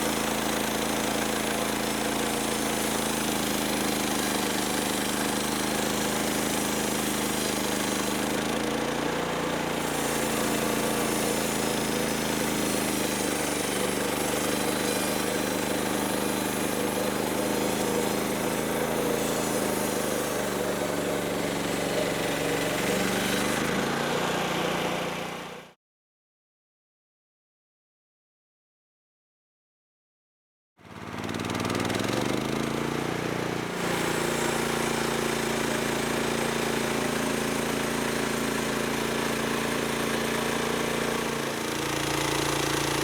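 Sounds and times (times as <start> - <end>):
bandsaw sawmill running: 0.0 - 25.8, 30.8 - 43.0.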